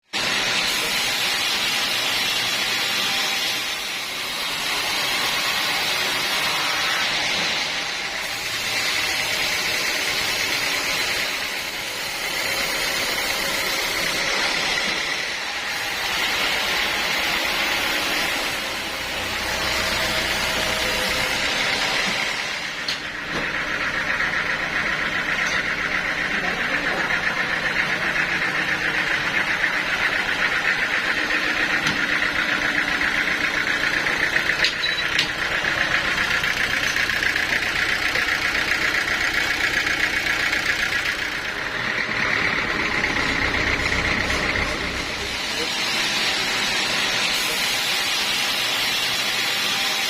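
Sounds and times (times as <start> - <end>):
sawmill machinery hissing: 0.1 - 50.0.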